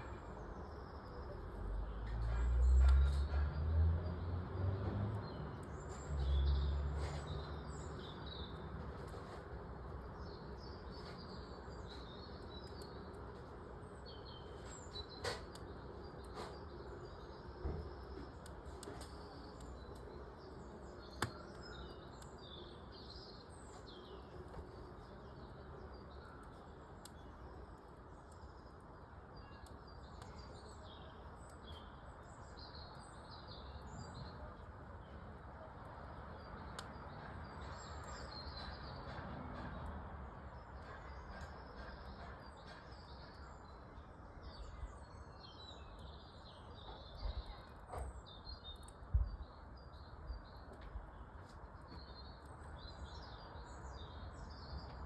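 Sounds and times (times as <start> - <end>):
small birds chirping: 0.0 - 55.0
wood fire popping: 0.0 - 55.0.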